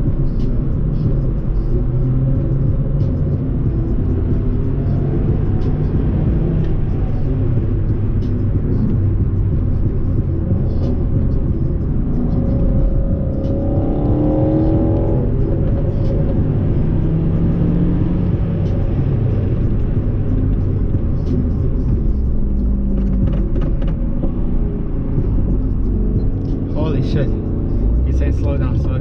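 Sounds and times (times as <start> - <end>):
car engine accelerating: 0.0 - 29.0
road rumble: 0.0 - 29.0.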